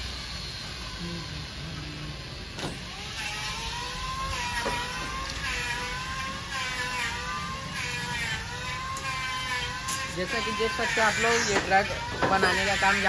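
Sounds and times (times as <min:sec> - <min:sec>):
motor whine: 0:00.0 - 0:13.0.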